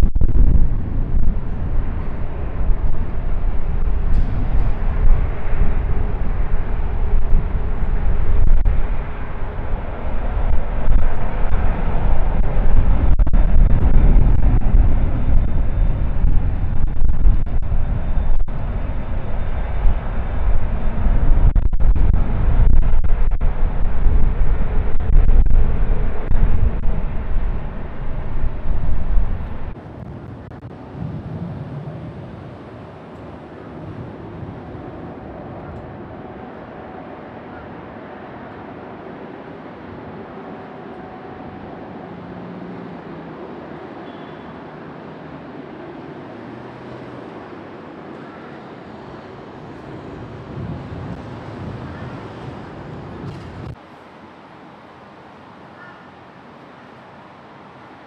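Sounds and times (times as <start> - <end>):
faint high whine: 0.0 - 58.0
jet engines deep rumble: 0.0 - 58.0.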